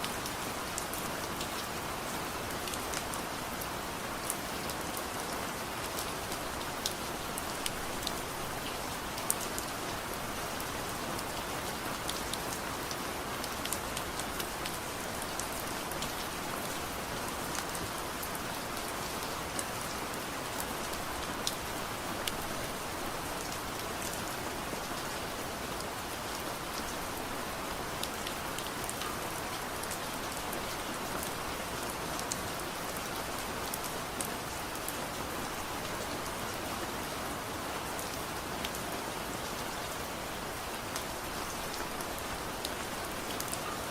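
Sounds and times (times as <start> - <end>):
steady soft rain: 0.0 - 43.9.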